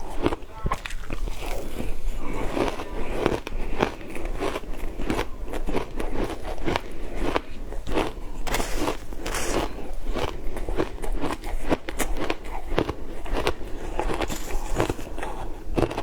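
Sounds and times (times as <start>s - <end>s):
ice crunching between teeth: 0.0s - 16.0s.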